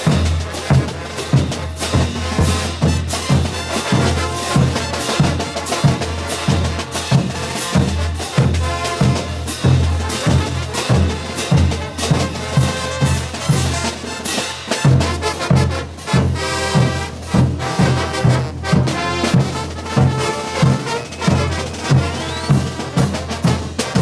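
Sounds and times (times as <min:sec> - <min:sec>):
bass drum and snare beat: 0:00.0 - 0:24.0
trumpets and trombones: 0:00.0 - 0:24.0.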